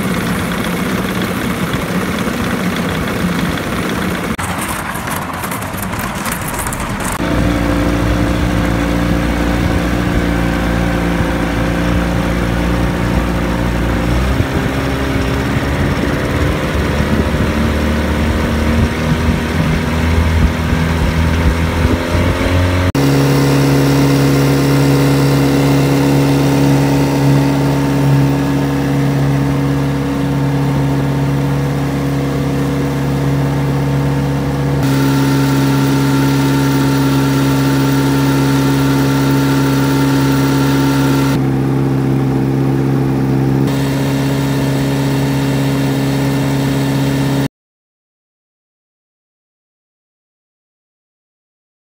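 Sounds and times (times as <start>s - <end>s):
outboard motor running: 0.0s - 47.5s.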